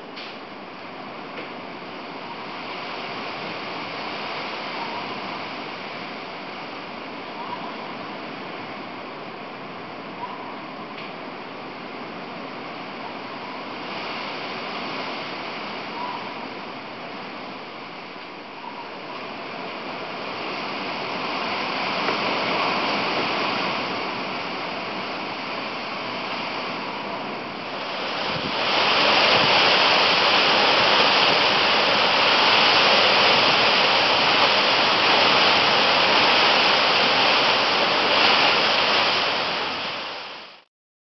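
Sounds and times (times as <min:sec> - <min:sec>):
strong wind through trees: 0:00.0 - 0:40.7.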